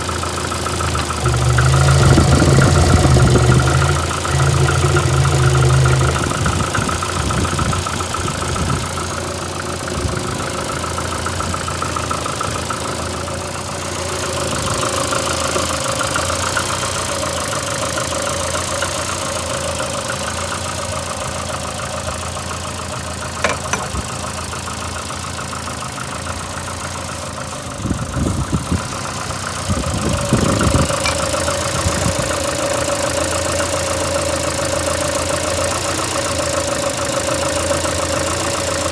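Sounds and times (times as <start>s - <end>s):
car engine idling: 0.0s - 38.9s
engine knocking and rubbing: 0.0s - 38.9s.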